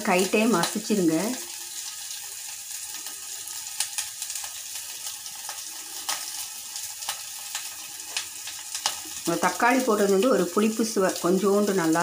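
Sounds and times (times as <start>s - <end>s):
oil sizzling in a pan: 0.0s - 12.0s
small crackles: 0.0s - 12.0s.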